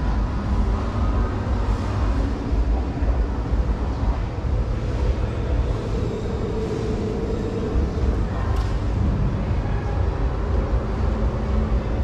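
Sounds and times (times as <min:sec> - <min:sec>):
low rumble of indoor hall: 0:00.0 - 0:12.0.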